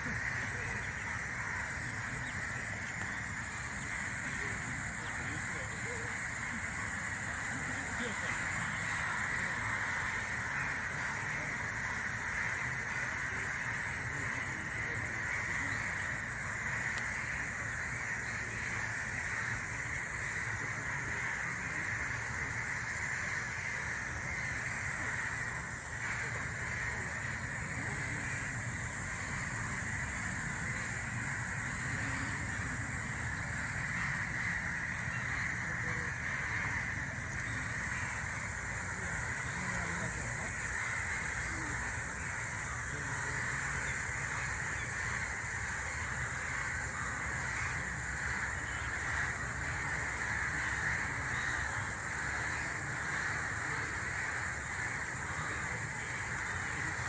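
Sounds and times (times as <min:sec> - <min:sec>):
forest ambience hiss: 0:00.0 - 0:57.0.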